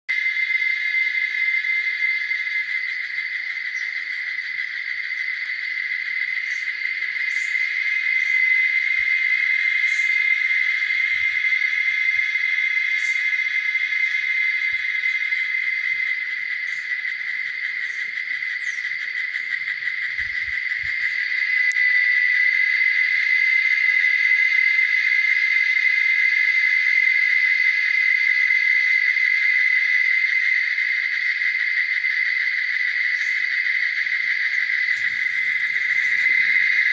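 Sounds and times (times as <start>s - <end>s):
insects buzzing: 0.1s - 36.9s.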